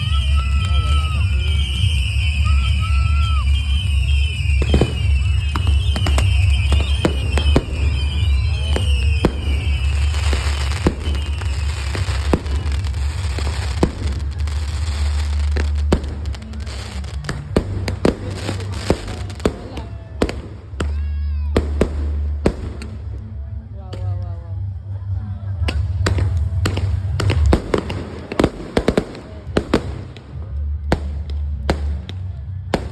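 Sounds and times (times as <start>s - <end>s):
fireworks whistling: 0.0s - 23.1s, 26.0s - 30.4s
fireworks crackling hiss: 0.0s - 23.3s, 25.7s - 32.9s
fireworks bangs and pops: 0.0s - 24.3s, 25.6s - 32.9s.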